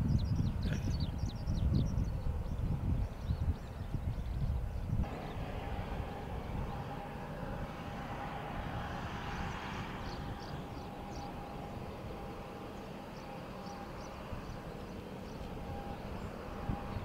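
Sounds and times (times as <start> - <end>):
distant jet engine rumble: 0.0 - 17.0.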